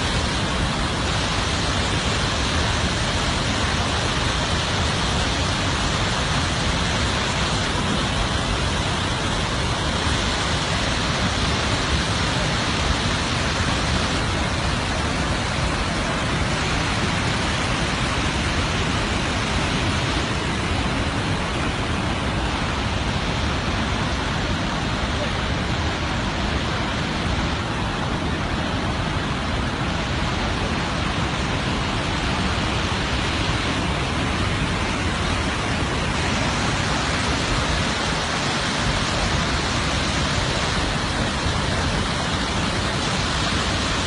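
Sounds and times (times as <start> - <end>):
waterfall roaring: 0.0 - 44.0.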